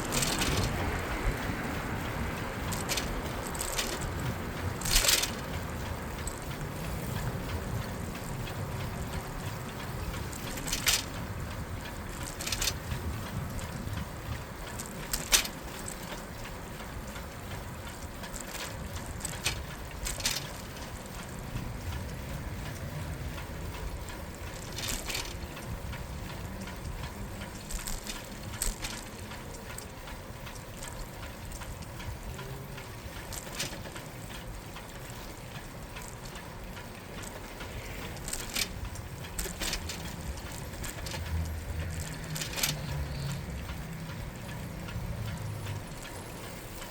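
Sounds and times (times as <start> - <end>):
bicycle clicks and rattles: 0.0 - 46.9
wind and tyre rumble: 0.0 - 46.9.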